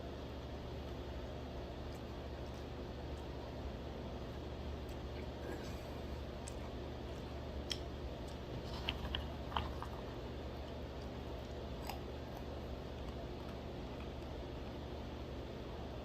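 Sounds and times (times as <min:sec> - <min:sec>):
steady low hum: 0:00.0 - 0:16.0
crunching almonds: 0:00.9 - 0:16.0.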